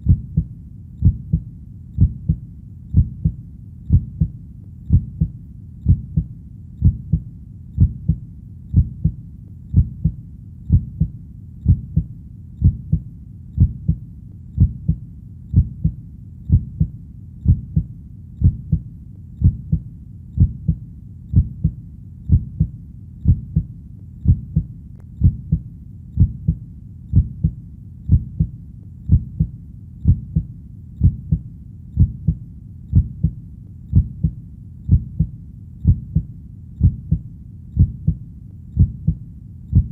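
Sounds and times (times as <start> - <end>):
faint steady hum: 0.0 - 39.9
heartbeat: 0.0 - 39.9.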